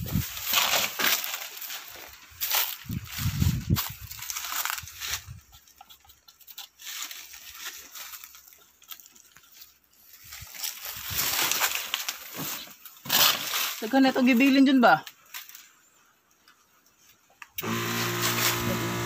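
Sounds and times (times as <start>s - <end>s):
rustling and scuffing from handling: 0.0s - 5.8s, 6.7s - 15.8s, 17.9s - 19.0s.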